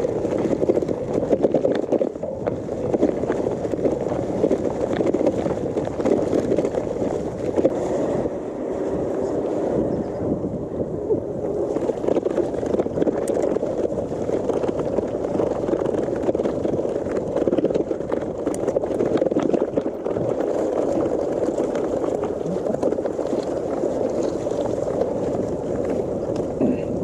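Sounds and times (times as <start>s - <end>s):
bike tyre noise: 0.0s - 27.0s
gravel ticking under tyres: 0.0s - 27.0s
wind on microphone: 0.0s - 27.0s.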